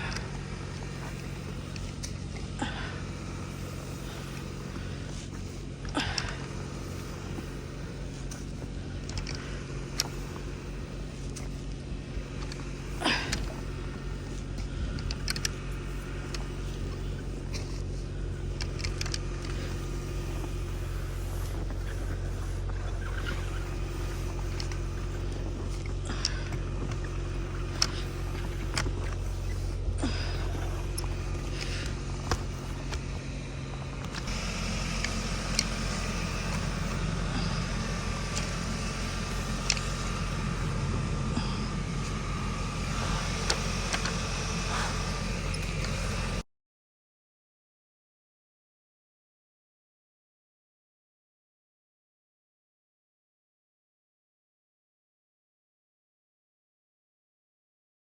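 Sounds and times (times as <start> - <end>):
car engine and road drone: 0.0 - 46.5.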